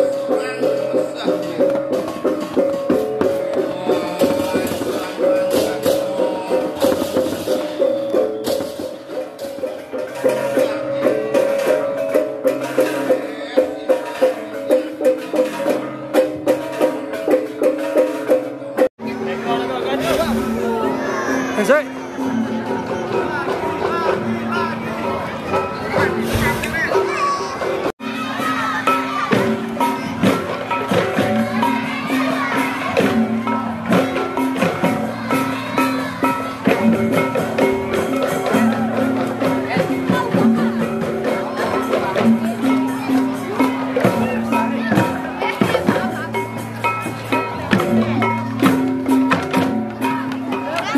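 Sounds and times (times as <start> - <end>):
gamelan music: 0.0 - 50.9.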